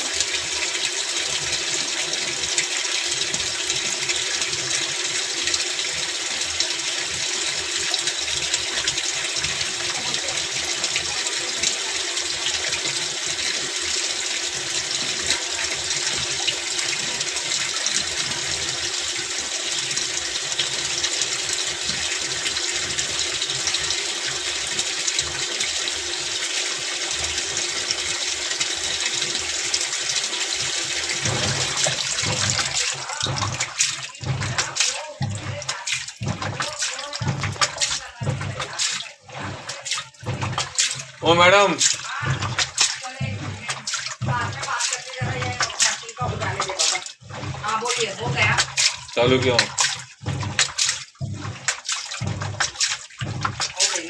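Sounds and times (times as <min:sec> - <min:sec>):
water rushing into washing machine: 0:00.0 - 0:54.0.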